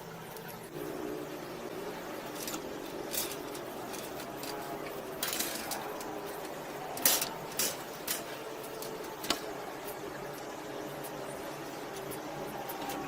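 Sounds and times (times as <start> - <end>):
faint background hum: 0.0 - 13.0
small hard objects clicking: 2.2 - 13.0.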